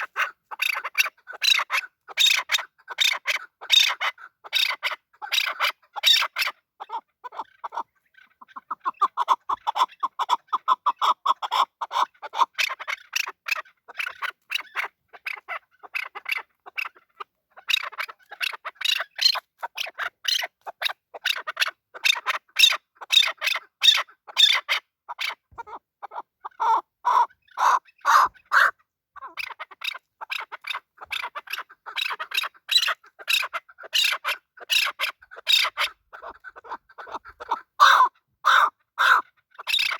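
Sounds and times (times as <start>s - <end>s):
partridge chuk calls: 0.0s - 39.9s.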